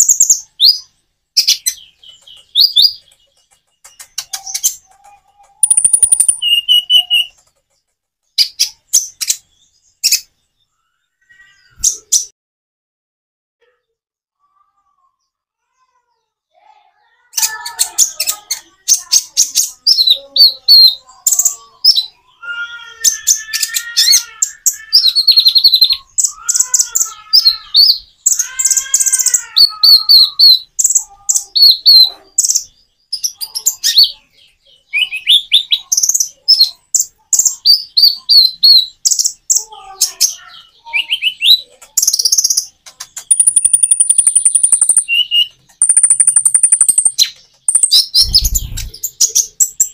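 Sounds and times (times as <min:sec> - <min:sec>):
small bird singing: 0:00.0 - 0:12.4, 0:13.6 - 0:49.9.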